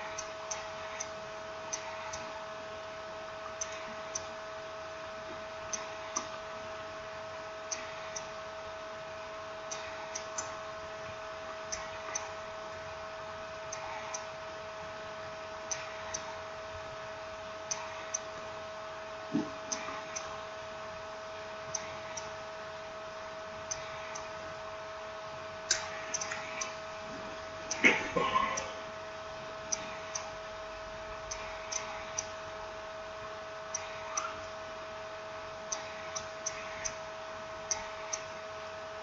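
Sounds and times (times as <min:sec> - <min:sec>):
steady high hum: 0:00.0 - 0:39.0.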